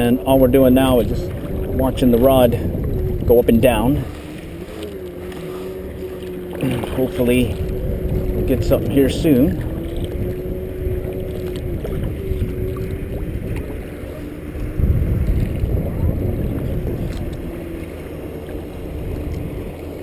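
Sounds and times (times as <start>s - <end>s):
distant motorboat drone: 0.0s - 20.0s
water washing against kayak hull: 0.0s - 20.0s
wind rumbling on microphone: 0.0s - 20.0s.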